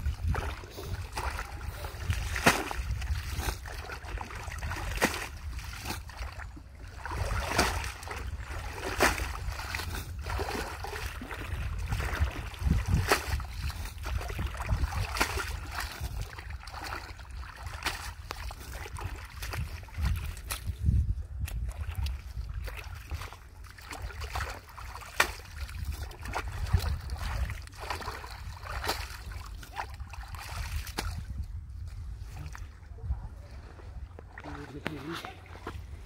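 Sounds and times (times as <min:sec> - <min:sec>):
splashing in muddy water: 0:00.0 - 0:36.0.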